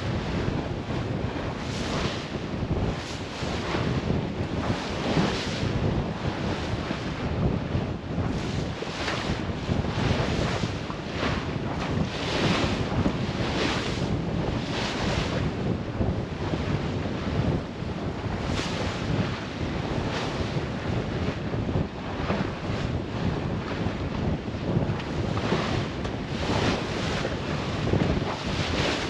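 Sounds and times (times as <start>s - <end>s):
waves washing along hull: 0.0s - 29.0s
wind buffeting microphone: 0.0s - 29.0s.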